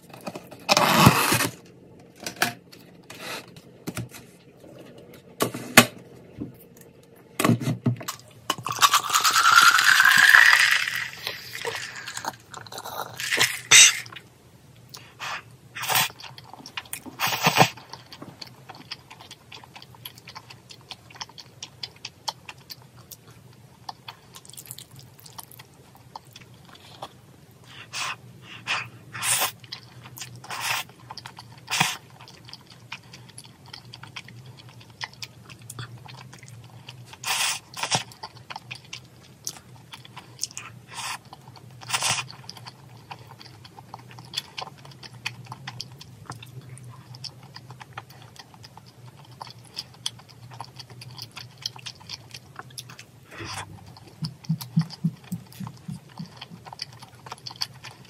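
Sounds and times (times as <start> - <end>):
person chewing food: 8.0 - 14.2, 14.8 - 58.0.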